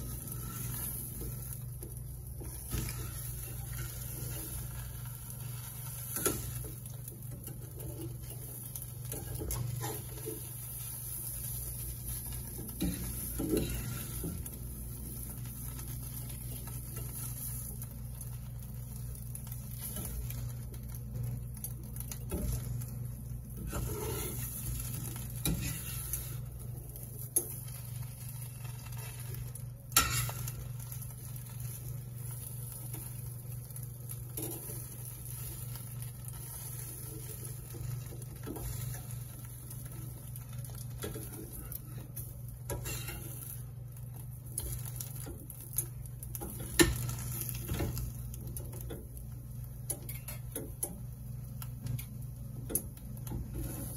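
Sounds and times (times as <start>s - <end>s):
food sizzling in a frying pan: 0.0s - 53.9s.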